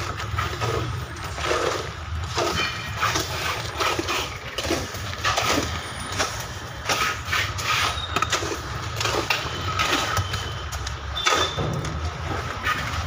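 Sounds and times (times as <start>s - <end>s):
rubble scraping and knocking: 0.0s - 13.0s.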